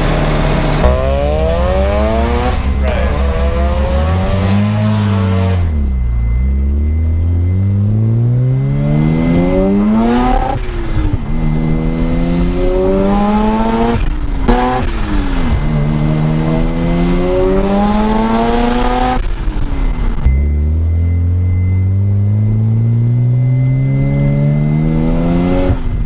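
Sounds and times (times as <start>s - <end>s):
rotary engine accelerating in cabin: 0.0s - 26.0s.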